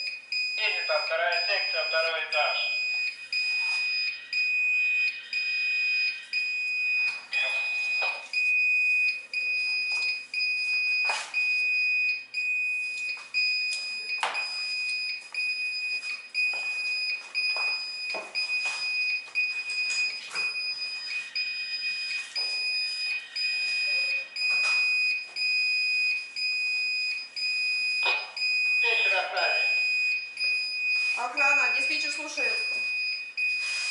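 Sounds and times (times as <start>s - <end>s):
fire alarm high-pitched tone: 0.0s - 33.9s.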